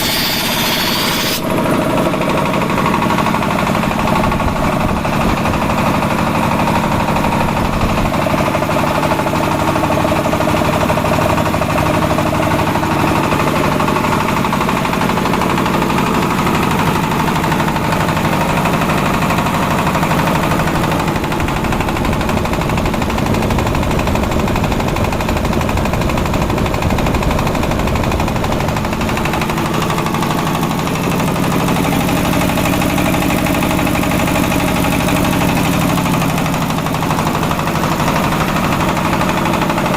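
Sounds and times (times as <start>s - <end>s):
air compressor pounding: 0.0s - 39.9s.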